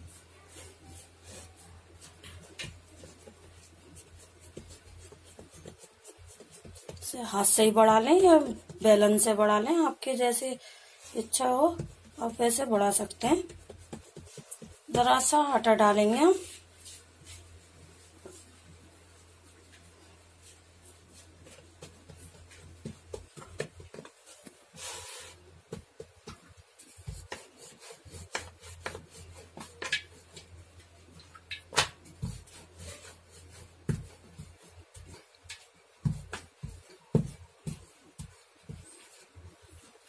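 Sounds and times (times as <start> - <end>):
rolling pin rubbing on dough: 0.0 - 40.0.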